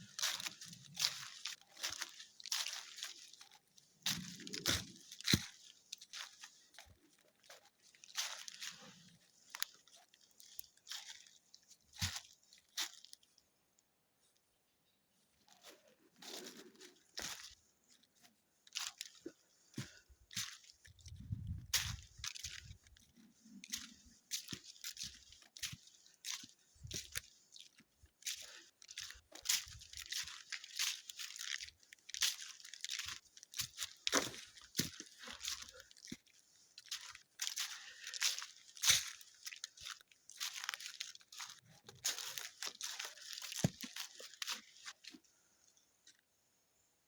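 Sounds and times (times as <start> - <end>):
footsteps crunching through leaves: 0.0 - 13.3, 15.6 - 45.2.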